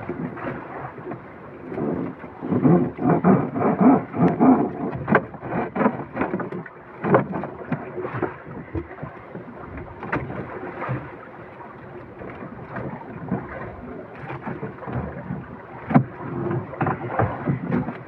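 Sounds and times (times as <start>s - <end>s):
water slapping against boat hull: 0.0s - 18.0s.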